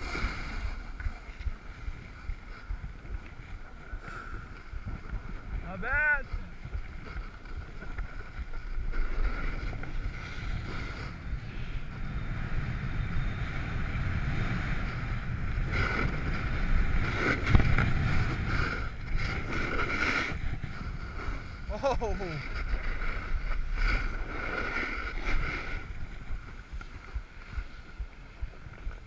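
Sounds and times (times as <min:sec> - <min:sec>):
board edge scraping snow: 0:00.0 - 0:05.6, 0:06.4 - 0:12.9, 0:13.6 - 0:28.9
snowboard sliding over packed snow: 0:00.0 - 0:29.0
wind buffeting microphone: 0:00.0 - 0:29.0.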